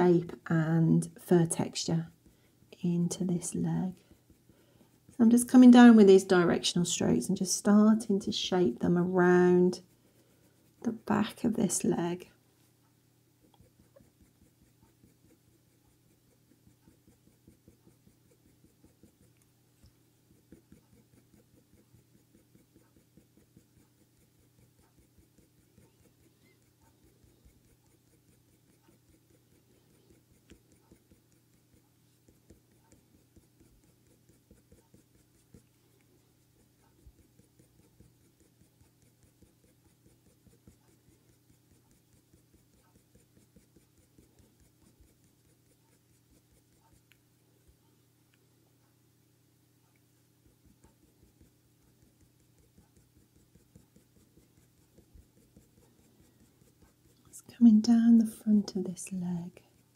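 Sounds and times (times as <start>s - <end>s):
pencil scratching on paper: 0.0s - 12.4s, 13.4s - 47.2s, 50.4s - 59.9s
low steady hum: 0.0s - 59.9s.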